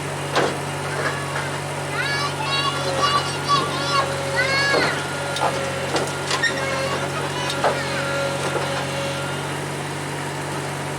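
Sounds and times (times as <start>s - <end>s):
truck diesel engine running: 0.0s - 10.9s.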